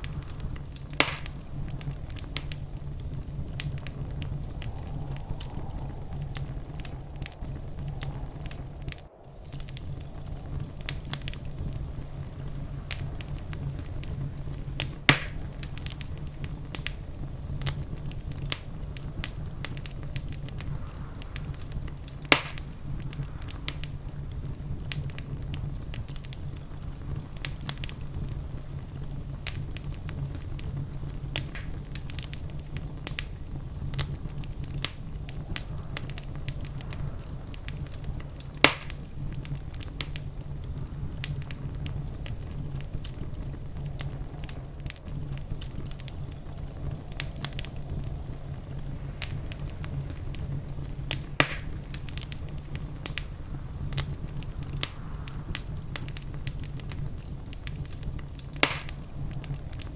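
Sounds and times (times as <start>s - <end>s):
fire crackling: 0.0s - 59.9s
loud fire pops: 0.0s - 59.9s.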